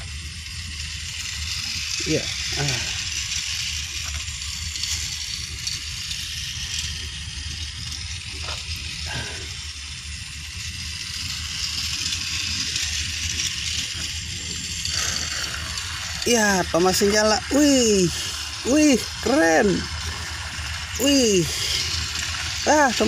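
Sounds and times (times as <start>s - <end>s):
toy train motor whirring: 0.0s - 23.0s.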